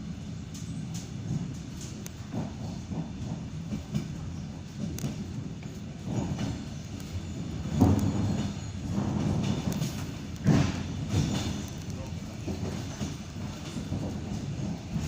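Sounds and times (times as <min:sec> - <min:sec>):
train rumbling on rails: 0:00.0 - 0:15.0
wheels knocking over rail joints: 0:00.5 - 0:15.0.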